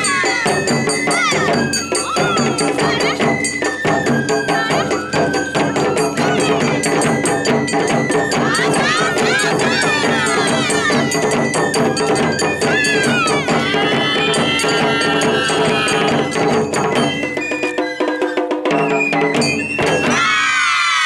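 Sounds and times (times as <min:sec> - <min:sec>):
clanking metal percussion: 0:00.0 - 0:20.4
voices or flute gliding: 0:00.0 - 0:20.9
drums in a fast beat: 0:00.0 - 0:21.0.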